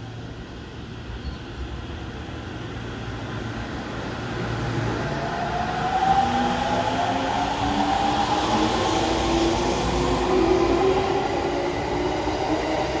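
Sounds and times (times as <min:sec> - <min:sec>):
train low hum: 0:00.0 - 0:13.0.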